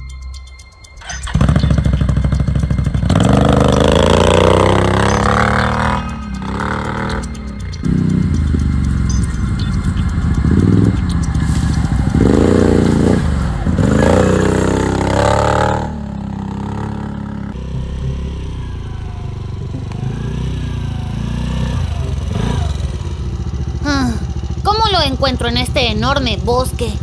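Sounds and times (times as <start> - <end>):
engine running steadily: 0.0 - 27.0
atv engines revving: 0.9 - 27.0.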